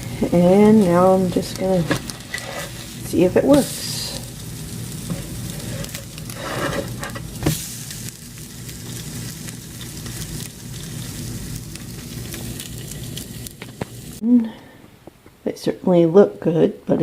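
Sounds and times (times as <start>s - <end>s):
pancakes sizzling in a frying pan: 0.0s - 14.2s.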